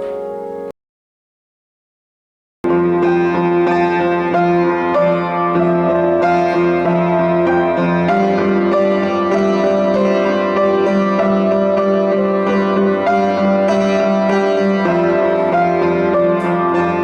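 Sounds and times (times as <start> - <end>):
solo piano music: 0.0 - 0.8, 2.6 - 17.0.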